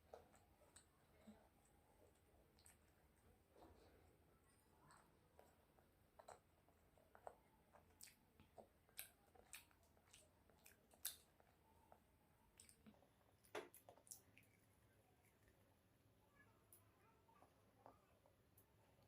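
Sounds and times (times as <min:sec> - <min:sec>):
mouth chewing with smacks: 0:00.0 - 0:15.7.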